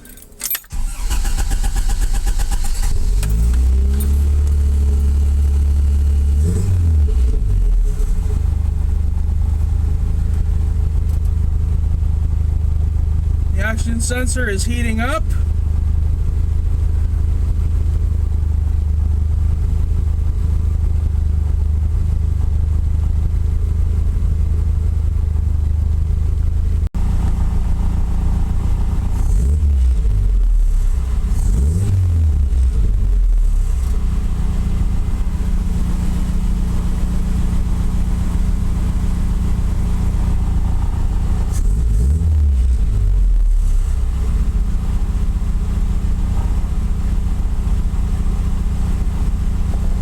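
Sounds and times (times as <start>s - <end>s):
car engine idling and revving: 0.0s - 50.0s.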